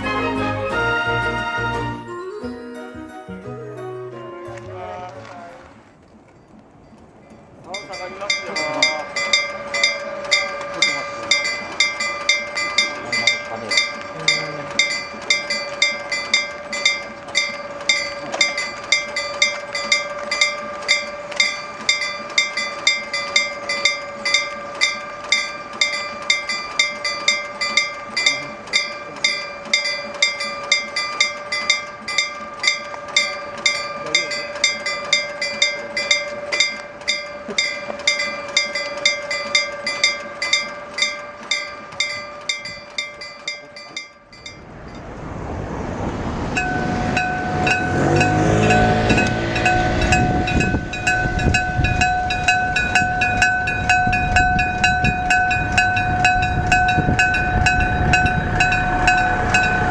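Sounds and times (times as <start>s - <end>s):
level crossing bell ringing: 6.4s - 45.3s, 46.4s - 59.9s.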